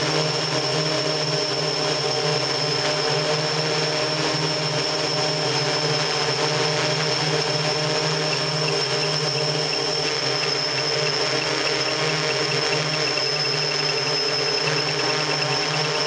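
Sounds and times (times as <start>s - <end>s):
drone motors and propellers humming: 0.0s - 16.0s.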